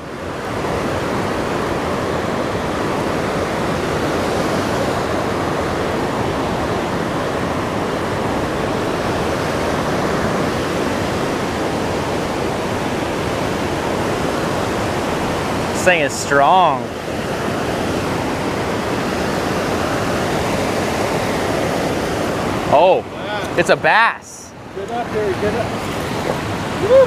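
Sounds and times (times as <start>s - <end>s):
water rushing over dam: 0.0s - 27.0s.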